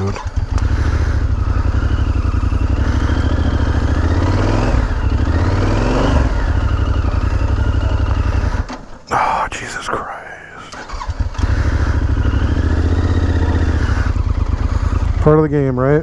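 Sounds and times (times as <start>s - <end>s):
motorcycle engine at high revs: 0.0s - 8.7s, 10.9s - 16.0s.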